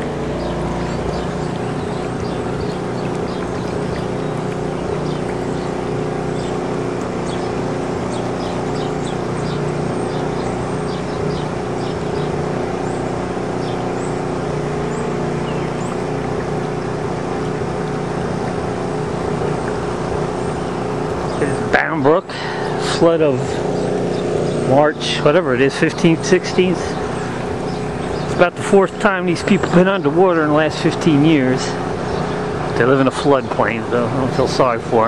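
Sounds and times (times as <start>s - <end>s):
engine droning steadily: 0.0s - 35.0s.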